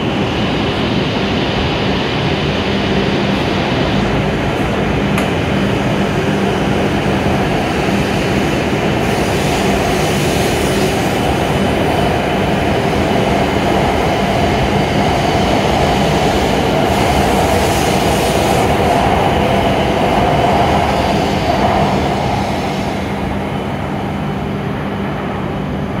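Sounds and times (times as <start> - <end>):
train running past platform: 0.0 - 26.0.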